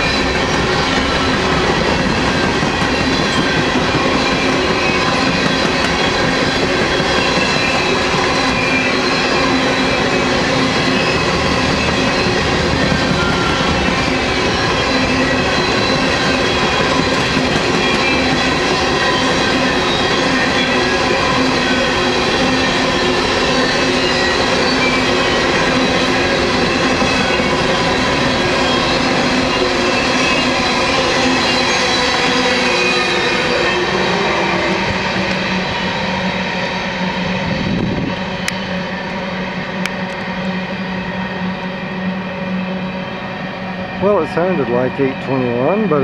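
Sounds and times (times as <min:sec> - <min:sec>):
freight train wheels on rail: 0:00.0 - 0:46.0.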